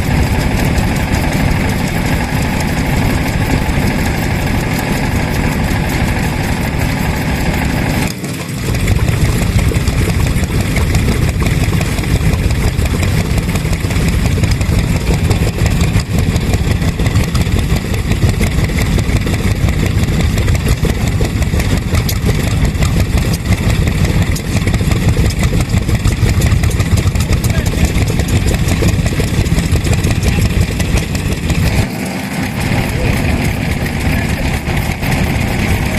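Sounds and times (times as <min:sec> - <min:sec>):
engines running with rapid firing: 0:00.0 - 0:35.9
loud low engine running: 0:00.0 - 0:35.9.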